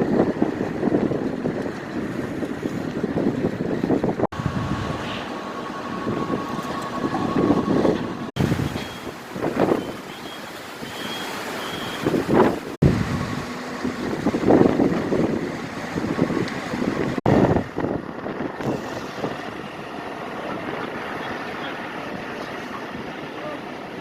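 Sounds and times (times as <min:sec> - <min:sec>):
wind buffeting microphone: 0:00.0 - 0:11.1, 0:11.8 - 0:24.0.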